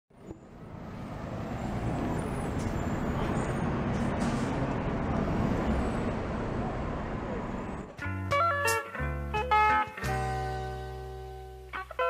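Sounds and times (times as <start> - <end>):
street traffic rumble: 0.1 - 12.0.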